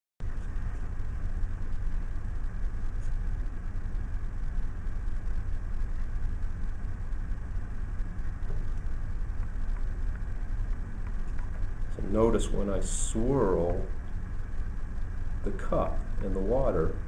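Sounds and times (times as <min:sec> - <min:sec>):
low background rumble: 0:00.2 - 0:17.0.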